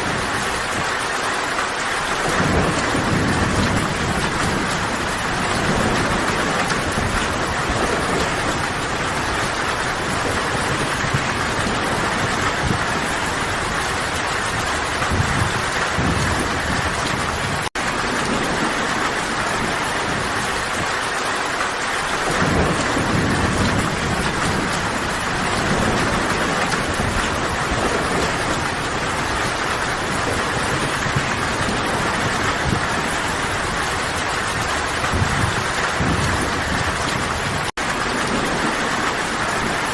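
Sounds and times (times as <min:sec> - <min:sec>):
distant thunder rumbling: 0:00.0 - 0:39.9
heavy rain falling: 0:00.0 - 0:39.9.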